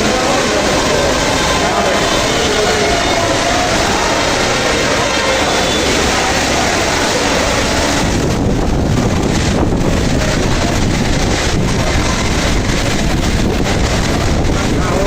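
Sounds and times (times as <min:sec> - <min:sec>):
heavy rain: 0:00.0 - 0:15.0
storm wind buffeting microphone: 0:00.0 - 0:15.0.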